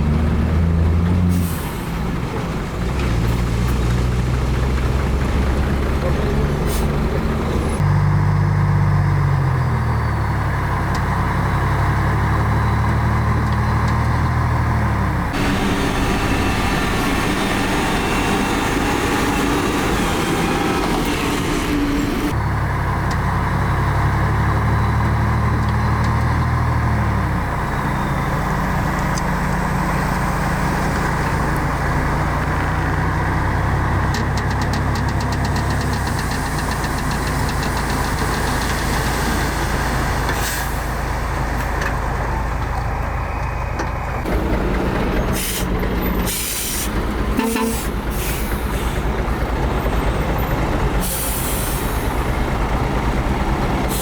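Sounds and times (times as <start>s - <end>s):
heavy diesel engine under load: 0.0s - 54.0s.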